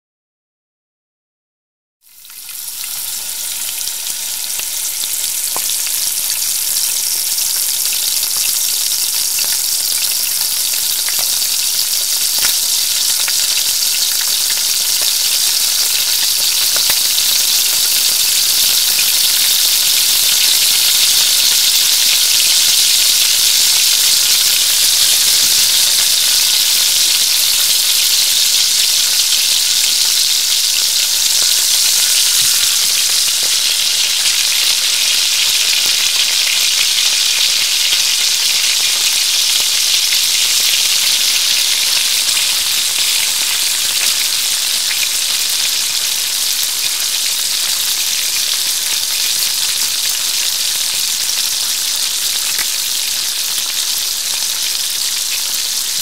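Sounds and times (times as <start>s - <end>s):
food sizzling in hot oil: 2.0s - 56.0s.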